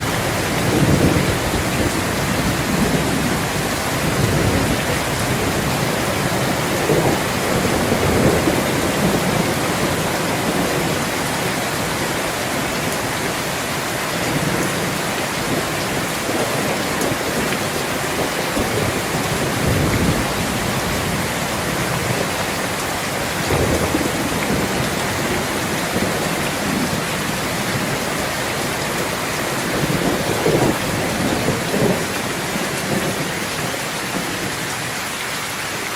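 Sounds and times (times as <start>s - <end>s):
thunder rumbles: 0.0s - 34.7s
rain pouring down: 0.0s - 35.9s.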